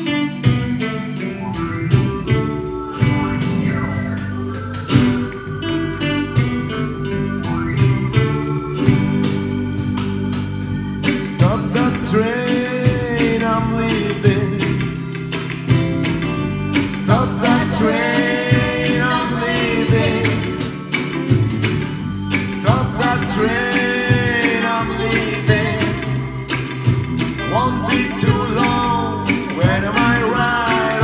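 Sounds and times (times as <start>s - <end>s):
cajon beat: 0.0s - 31.0s
live reggae band: 0.0s - 31.0s.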